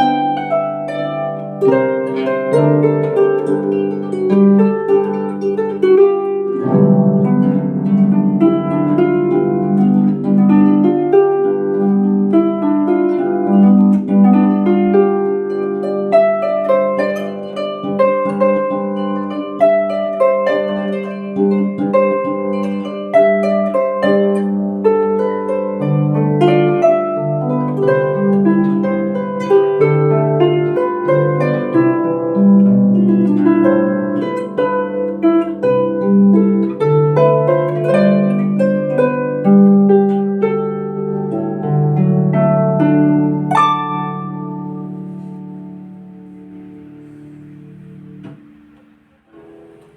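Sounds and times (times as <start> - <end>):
harp playing a melody: 0.0 - 49.9.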